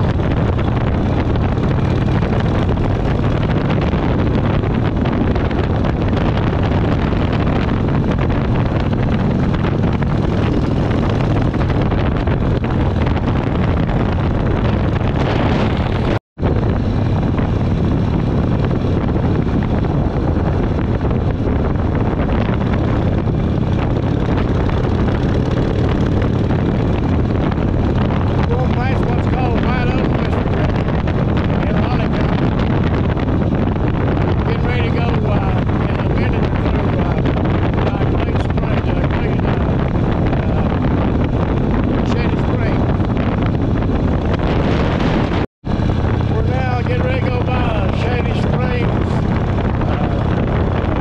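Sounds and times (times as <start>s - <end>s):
motorcycle engine running: 0.0s - 51.0s
wind noise on microphone: 0.0s - 51.0s.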